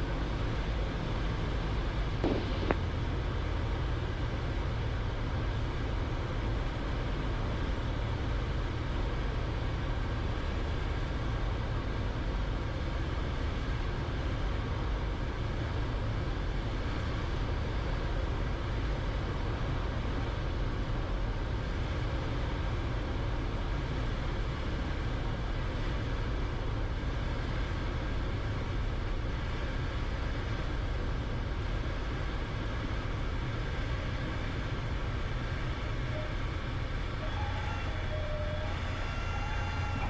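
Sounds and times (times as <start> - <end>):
airflow over cabin: 0.0 - 40.0
small plane engine and propeller drone: 0.0 - 40.0.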